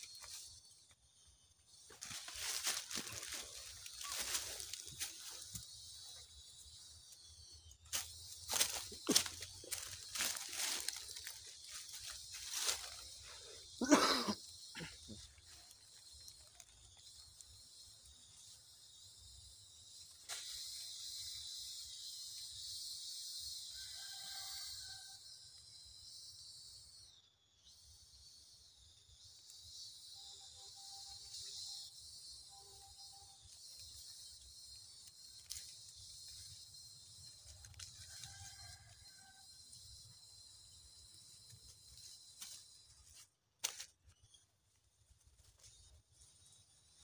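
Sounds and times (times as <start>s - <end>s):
dry leaves and twigs crackling: 0.0s - 27.1s, 28.4s - 47.0s
high-pitched insect chorus: 0.0s - 47.0s.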